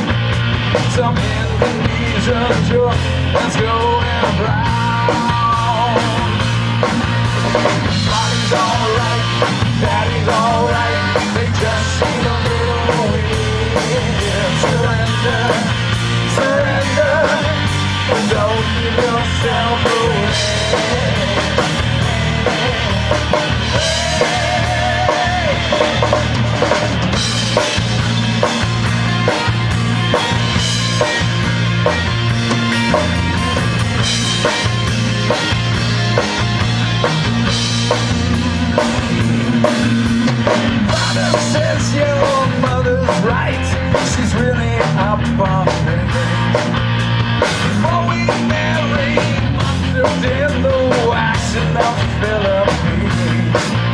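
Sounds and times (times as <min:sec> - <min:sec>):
drum kit beat: 0:00.0 - 0:53.9
live rock band playing: 0:00.0 - 0:53.9.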